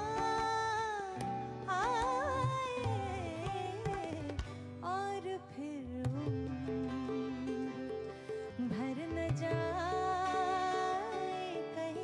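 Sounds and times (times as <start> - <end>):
tabla: 0.0 - 12.0.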